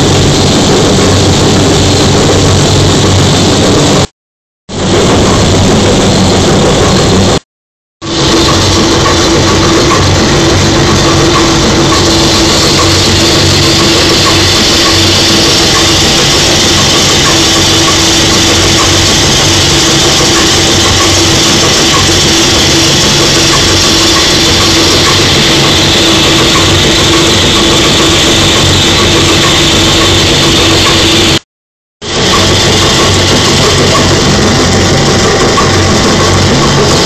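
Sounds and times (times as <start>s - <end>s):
diesel engine running loudly: 0.0s - 4.1s, 4.7s - 7.4s, 8.0s - 31.4s, 32.0s - 37.0s.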